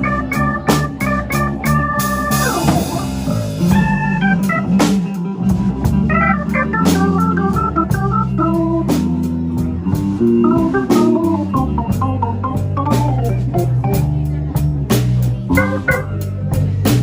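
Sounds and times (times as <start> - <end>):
organ sustained notes: 0.0 - 14.2, 15.5 - 16.7
blues band playing: 0.0 - 17.0.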